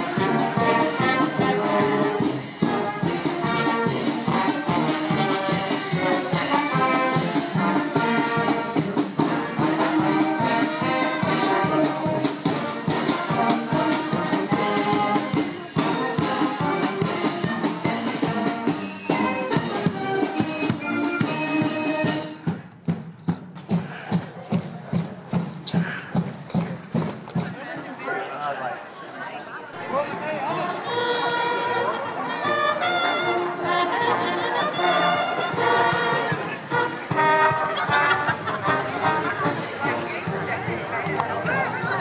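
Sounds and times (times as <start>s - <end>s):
brass band playing a march: 0.0s - 22.8s, 30.2s - 42.0s
steady drumbeat: 0.0s - 27.6s, 35.5s - 42.0s.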